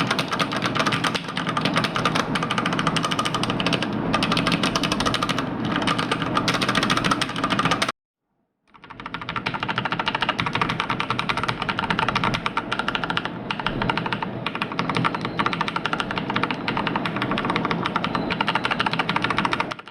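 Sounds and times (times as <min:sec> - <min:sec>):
fast typing on mechanical keyboard: 0:00.0 - 0:07.9, 0:08.7 - 0:19.9.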